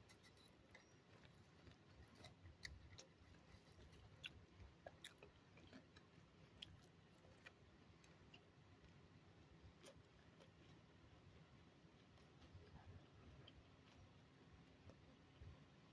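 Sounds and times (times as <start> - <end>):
faint chewing: 0.0 - 15.9.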